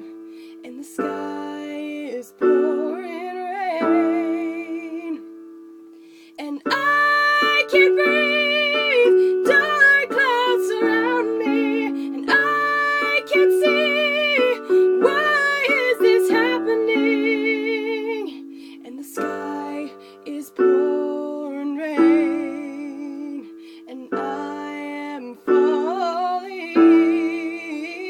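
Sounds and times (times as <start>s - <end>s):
woman singing slow song: 0.0s - 5.5s, 6.3s - 28.0s.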